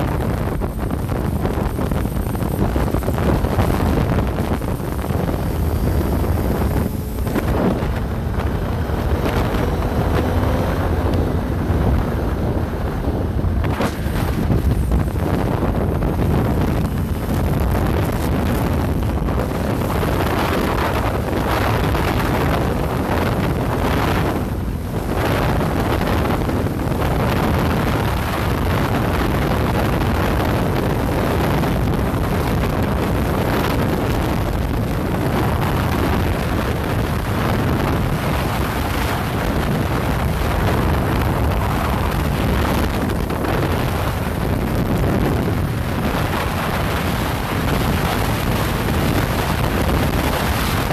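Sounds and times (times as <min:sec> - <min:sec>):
motorcycle engine: 0:00.0 - 0:50.9
road noise: 0:00.0 - 0:50.9
wind buffeting microphone: 0:00.0 - 0:50.9.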